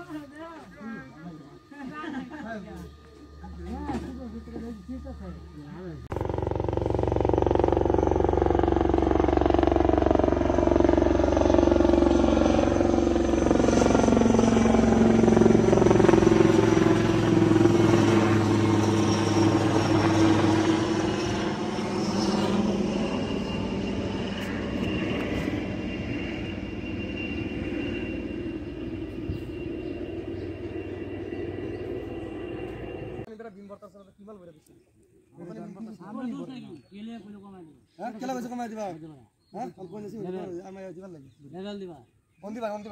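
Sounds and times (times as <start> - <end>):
helicopter passing overhead: 0.0 - 33.3, 39.6 - 42.9.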